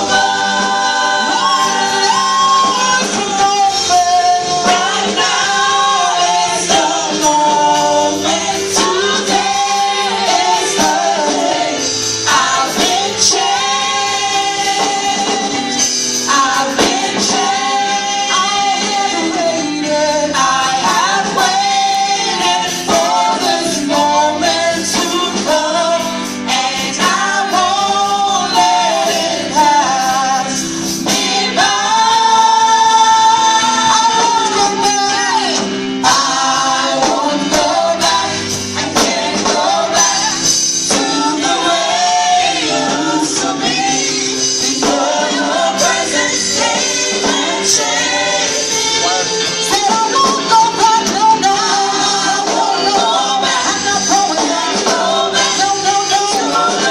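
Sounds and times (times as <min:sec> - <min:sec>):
band accompaniment: 0:00.0 - 0:56.9
gospel choir singing: 0:00.0 - 0:56.9.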